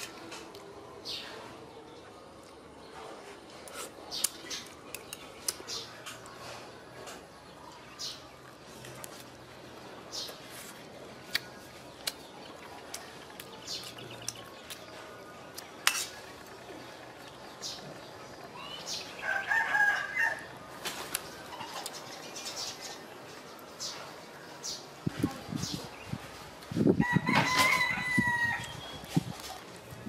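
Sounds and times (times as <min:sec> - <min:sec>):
small birds chirping: 0:01.0 - 0:20.4, 0:21.0 - 0:26.9.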